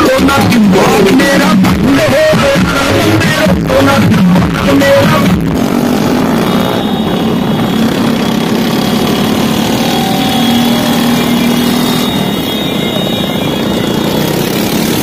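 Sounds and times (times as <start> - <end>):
motorcycle and truck engines: 0.0 - 15.0.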